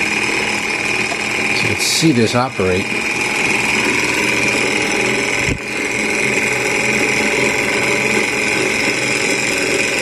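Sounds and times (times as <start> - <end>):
model engine whirring and clattering: 0.0 - 10.0.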